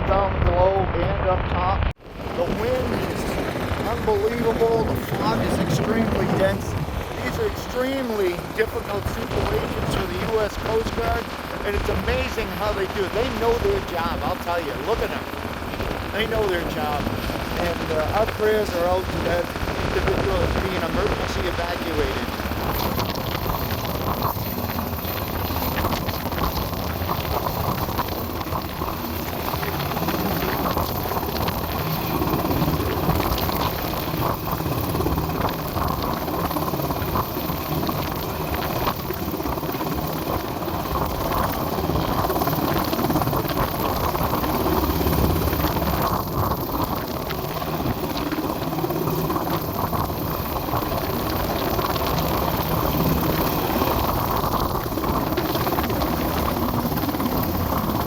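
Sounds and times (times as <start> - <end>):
helicopter hovering overhead: 0.0 - 58.0
wind buffeting microphone: 0.0 - 58.0.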